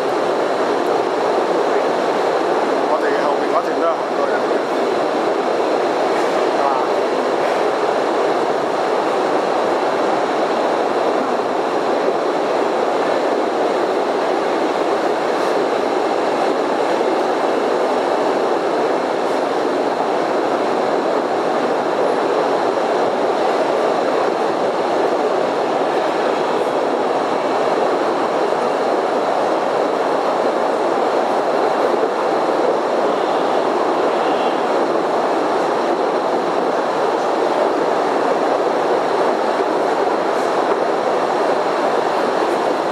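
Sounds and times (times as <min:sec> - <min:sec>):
train wheels on track: 0:00.0 - 0:42.9.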